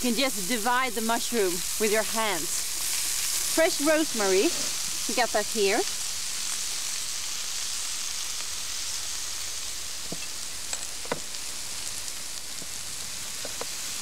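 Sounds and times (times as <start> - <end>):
mushrooms sizzling in a pan: 0.0 - 14.0.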